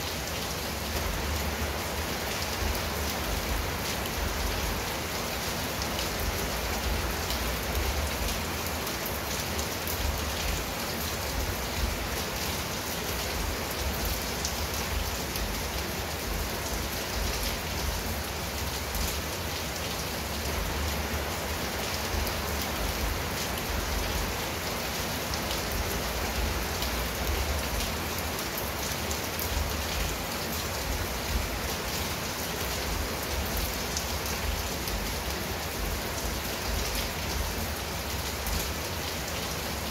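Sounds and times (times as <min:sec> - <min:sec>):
rain on a tiled roof: 0:00.0 - 0:39.9.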